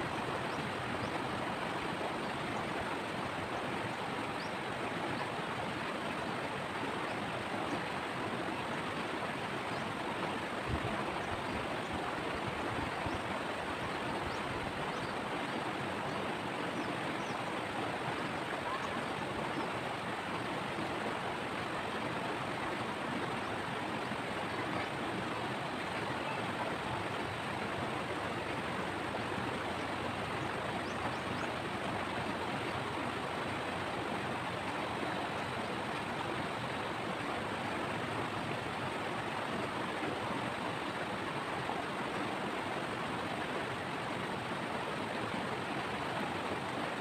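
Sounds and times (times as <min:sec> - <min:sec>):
river water rushing over rocks: 0:00.0 - 0:47.0.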